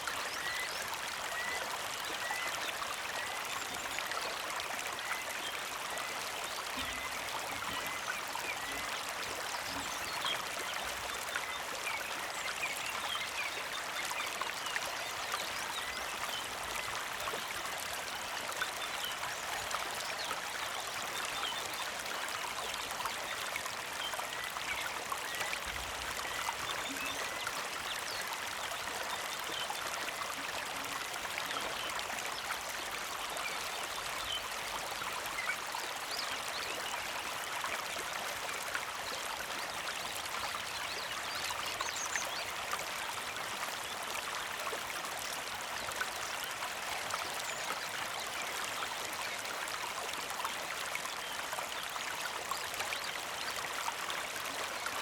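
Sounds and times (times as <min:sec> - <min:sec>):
creek trickling over stones: 0:00.0 - 0:55.0.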